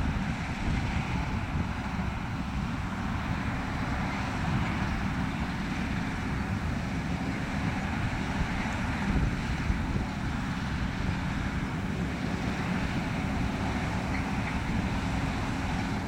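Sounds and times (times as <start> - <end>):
combine harvester drone: 0.0 - 16.0
wind buffeting microphone: 0.0 - 16.0.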